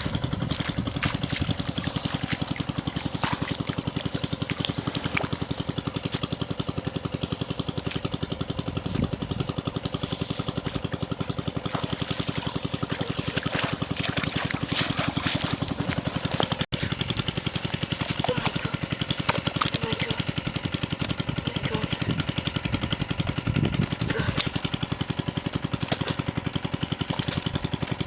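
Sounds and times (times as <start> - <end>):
small engine thumping: 0.0 - 28.0
water trickling and splashing: 0.0 - 28.0.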